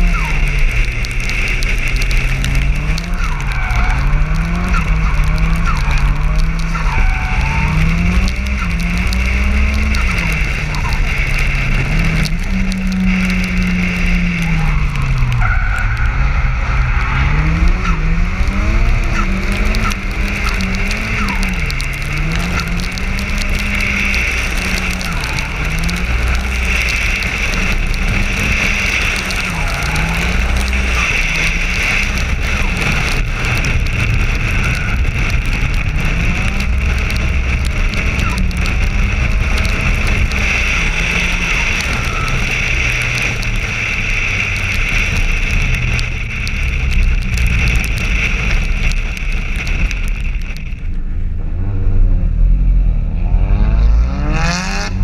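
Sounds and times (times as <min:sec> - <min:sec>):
car engine revving: 0:00.0 - 0:55.0
wind and road hiss: 0:00.0 - 0:55.0.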